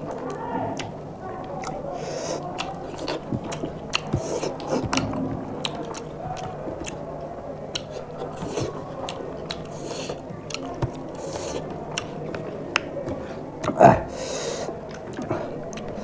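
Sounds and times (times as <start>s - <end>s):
fingers mixing rice on plate: 0.1s - 16.0s
chewing with mouth clicks: 1.5s - 7.1s, 7.7s - 13.8s, 14.7s - 16.0s.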